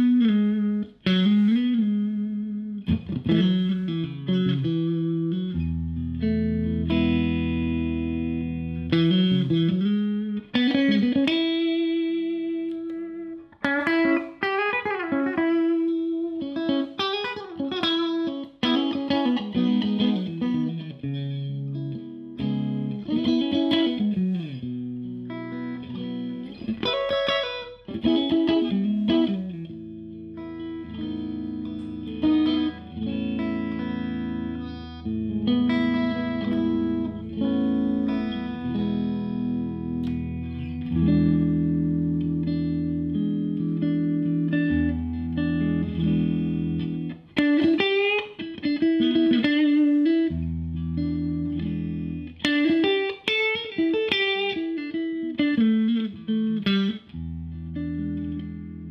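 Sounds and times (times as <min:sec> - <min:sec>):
electric guitar playing: 0:00.0 - 0:58.9.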